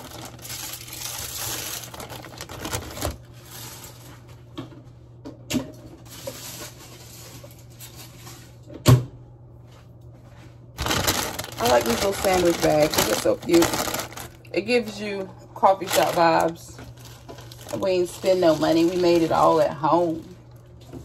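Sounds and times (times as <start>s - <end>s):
foil and paper rustling: 0.0s - 4.4s, 6.0s - 8.6s, 10.8s - 20.6s.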